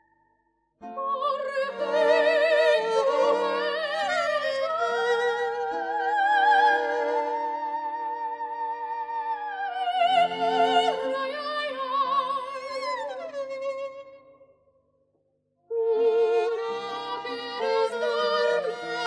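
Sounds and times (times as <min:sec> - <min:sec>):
soprano singing with vibrato: 0:00.8 - 0:13.4, 0:15.7 - 0:19.0
violin and guitar accompaniment: 0:00.8 - 0:14.2, 0:15.7 - 0:19.0.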